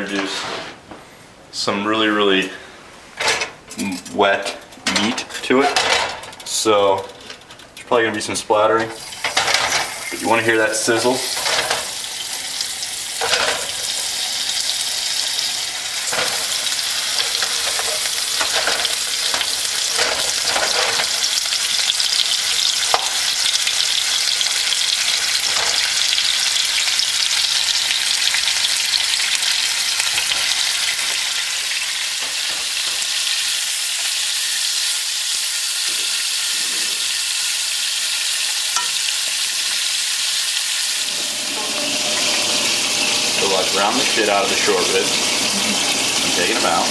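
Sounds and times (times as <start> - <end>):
meat sizzling in a frying pan: 9.0 - 46.9.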